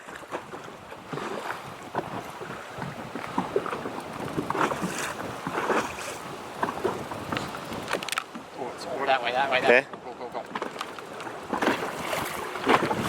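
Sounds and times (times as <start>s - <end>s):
waves slapping against boat: 0.0s - 13.0s
wind buffeting microphone: 0.0s - 13.0s.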